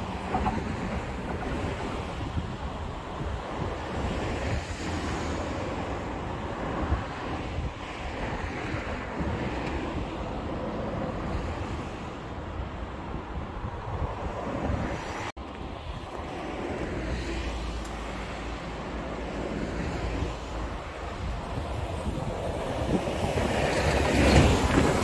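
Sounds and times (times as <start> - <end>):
wind buffeting microphone: 0.0 - 17.3, 18.0 - 25.0.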